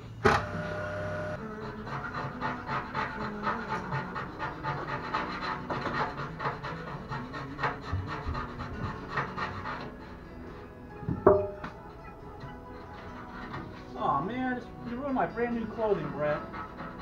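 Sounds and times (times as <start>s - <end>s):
rubbing strokes on surface: 1.4s - 10.7s, 12.7s - 17.0s.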